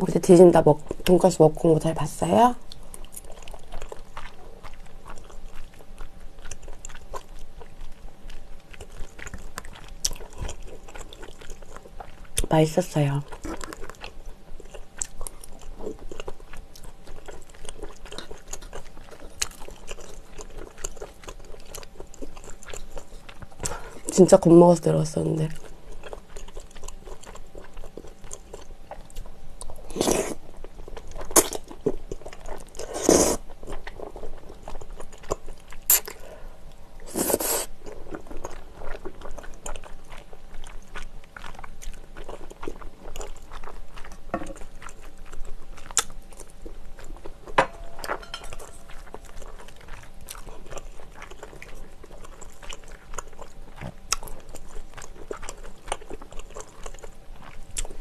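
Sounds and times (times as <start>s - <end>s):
close chewing and wet mouth sounds: 0.0s - 58.0s.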